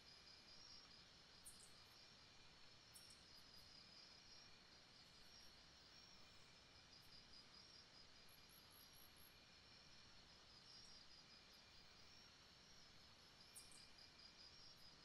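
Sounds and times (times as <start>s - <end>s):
insects trilling: 0.1s - 2.2s, 2.9s - 15.0s.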